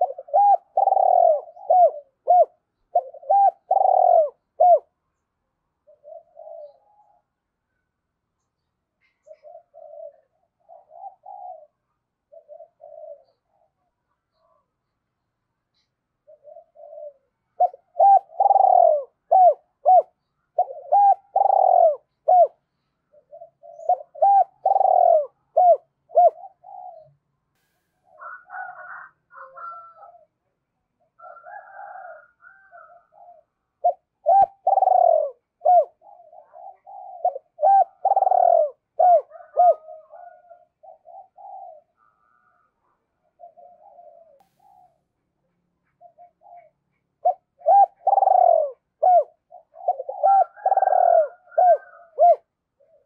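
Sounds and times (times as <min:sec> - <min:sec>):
dove cooing: 0:00.0 - 0:05.0, 0:05.8 - 0:07.4, 0:09.0 - 0:14.7, 0:15.7 - 0:27.2, 0:28.0 - 0:30.4, 0:31.2 - 0:45.1, 0:45.8 - 0:53.0.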